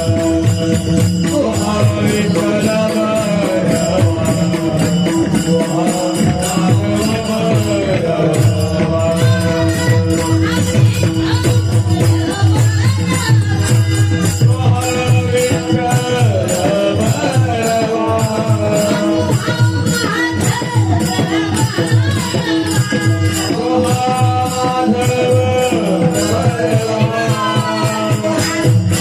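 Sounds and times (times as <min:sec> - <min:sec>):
drum beat: 0:00.0 - 0:29.0
small hand cymbals: 0:00.0 - 0:29.0.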